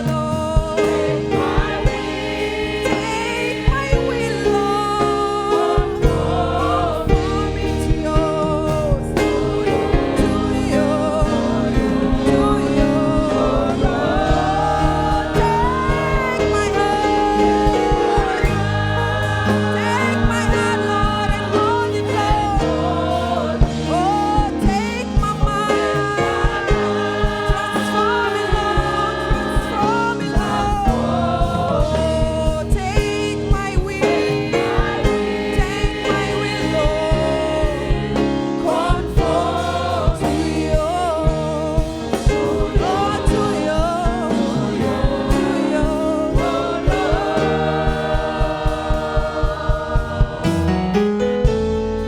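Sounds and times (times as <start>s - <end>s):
band accompaniment: 0.0s - 52.0s
gospel choir singing: 0.0s - 52.0s
steady drum beat: 0.0s - 52.0s.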